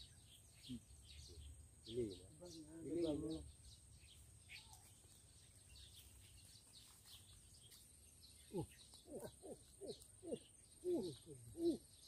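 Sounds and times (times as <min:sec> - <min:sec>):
small bird chirps: 0:00.0 - 0:12.0.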